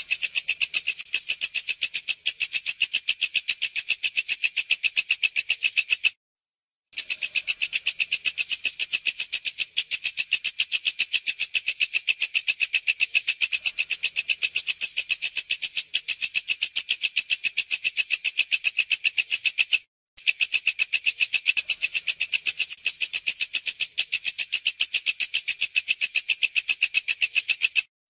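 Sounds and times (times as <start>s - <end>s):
bush cricket calling: 0.0s - 6.1s, 7.0s - 27.9s.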